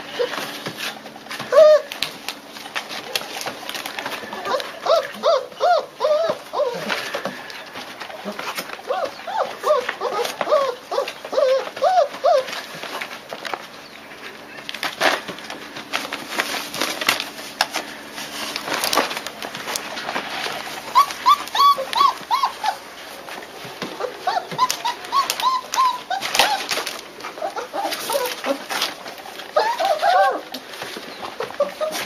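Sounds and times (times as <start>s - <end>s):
clicks and scuffling: 0.0s - 32.0s
puppies squeaking and whimpering: 0.0s - 32.0s.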